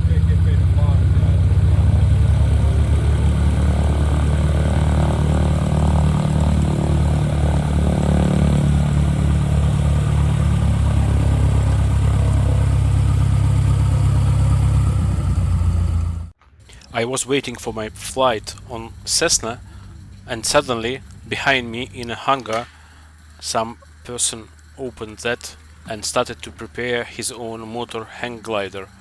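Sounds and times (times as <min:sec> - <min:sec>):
propeller aircraft engine running: 0:00.0 - 0:29.0.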